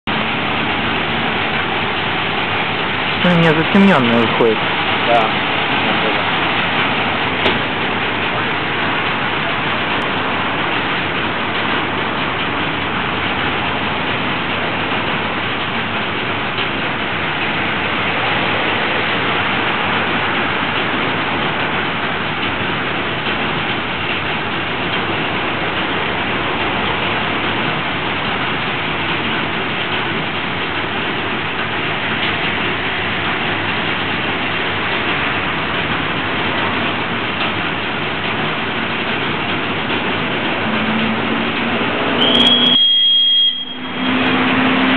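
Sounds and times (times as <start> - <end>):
diesel locomotive running: 0.1 - 44.9.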